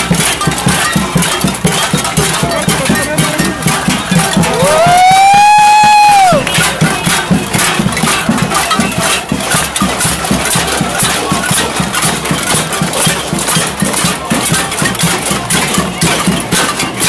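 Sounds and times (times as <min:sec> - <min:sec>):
crowd banging pots and pans: 0:00.0 - 0:17.0.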